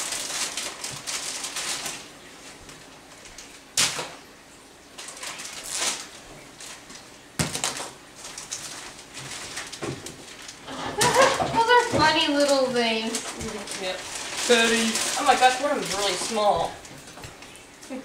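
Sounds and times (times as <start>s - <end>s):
rustling of food items: 0.0s - 4.2s, 4.8s - 18.0s.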